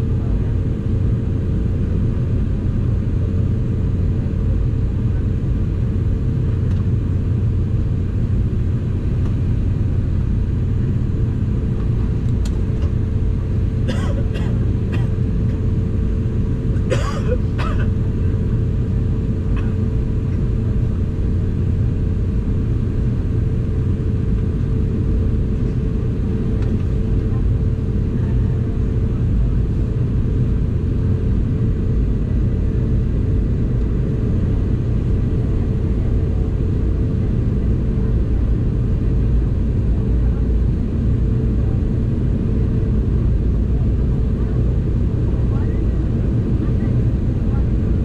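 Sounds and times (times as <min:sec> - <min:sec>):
airliner engine and airflow rumble: 0:00.0 - 0:48.0
constant hum: 0:00.0 - 0:48.0.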